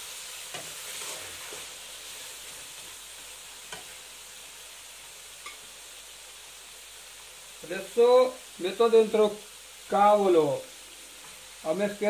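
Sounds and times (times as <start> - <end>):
food sizzling in a metal pan: 0.0 - 12.0.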